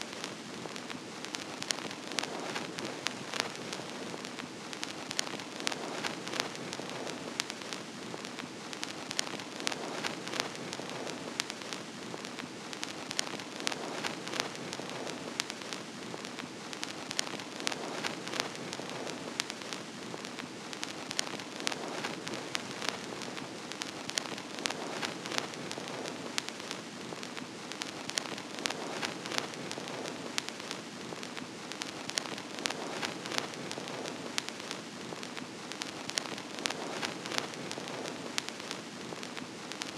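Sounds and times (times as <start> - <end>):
vinyl record hiss: 0.0 - 39.9
vinyl clicks and pops: 0.1 - 39.9.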